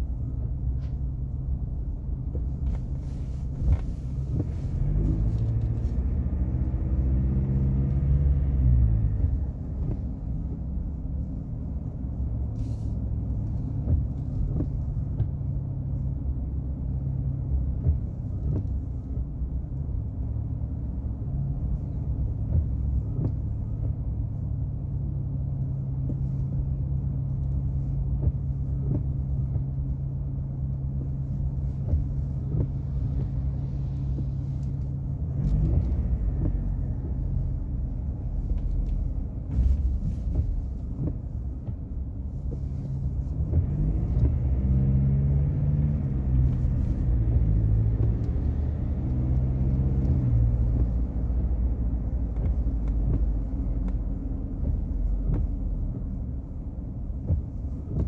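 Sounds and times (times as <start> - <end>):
road rumble: 0.0 - 58.0.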